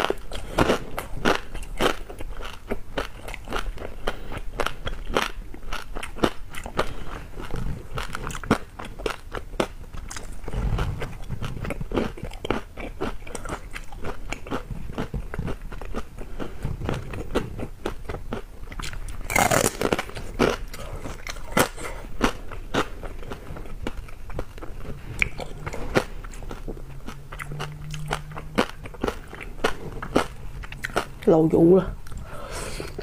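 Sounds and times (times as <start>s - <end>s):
crunchy chewing: 0.0s - 31.3s.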